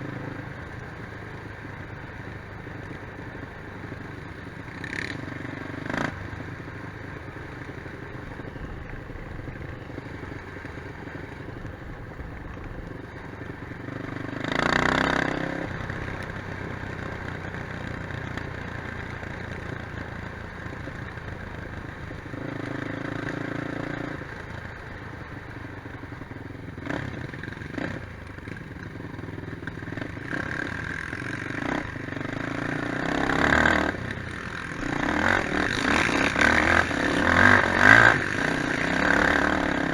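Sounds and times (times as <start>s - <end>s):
quad bike engines revving: 0.0s - 39.9s.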